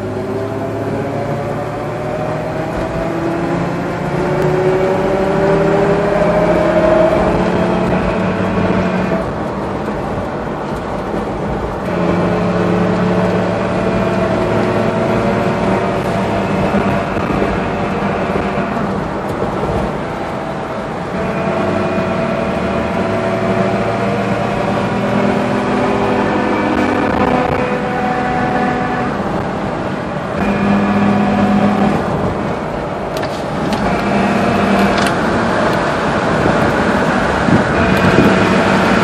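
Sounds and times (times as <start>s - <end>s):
car engine running with whine: 0.0s - 39.0s.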